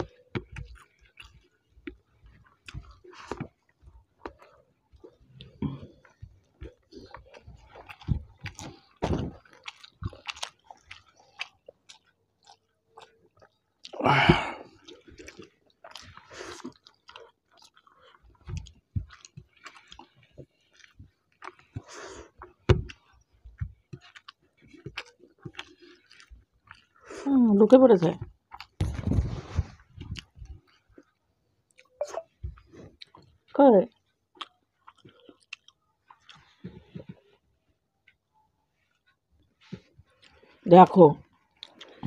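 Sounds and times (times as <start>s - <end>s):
people eating by hand: 0.0s - 40.6s, 41.2s - 42.0s.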